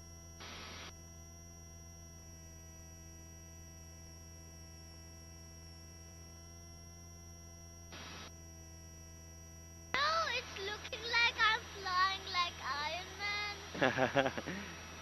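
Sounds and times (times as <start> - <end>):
electrical hum and whine: 0.0 - 15.0.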